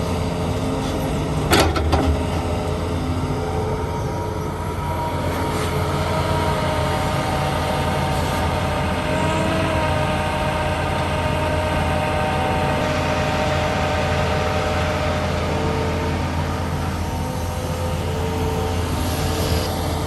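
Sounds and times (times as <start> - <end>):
diesel machinery engine drone: 0.0 - 20.0
steady machinery whine: 0.0 - 20.0.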